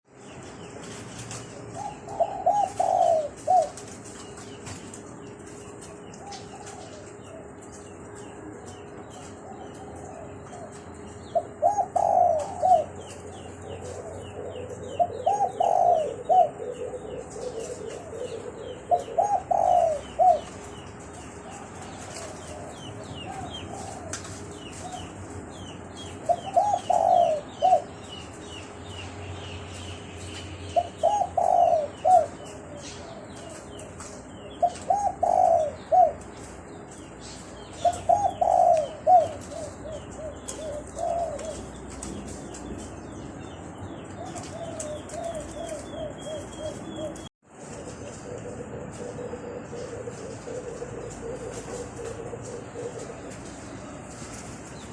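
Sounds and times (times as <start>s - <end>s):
small birds chirping: 0.1s - 54.9s
dove cooing: 1.2s - 28.4s, 30.6s - 43.2s, 43.9s - 54.9s.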